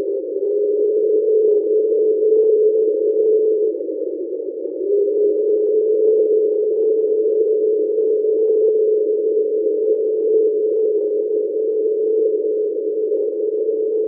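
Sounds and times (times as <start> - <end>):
low ambient drone: 0.0 - 14.0.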